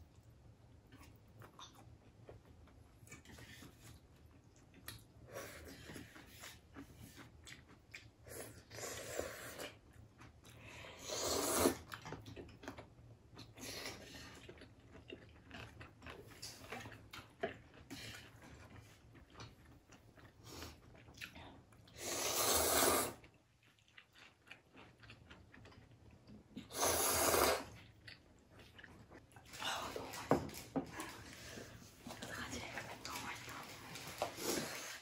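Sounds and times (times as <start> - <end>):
chewing and crunching food: 0.0 - 11.0, 11.6 - 22.3, 23.0 - 35.0.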